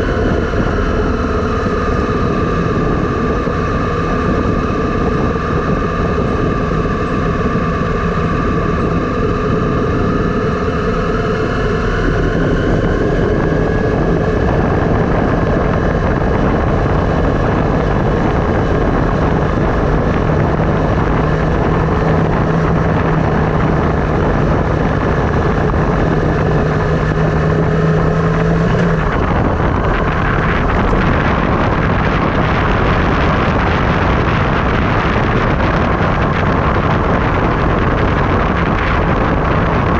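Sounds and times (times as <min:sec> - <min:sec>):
bike tyre noise on road: 0:00.0 - 0:39.9
low hum: 0:00.0 - 0:39.9
wind on microphone: 0:00.0 - 0:39.9.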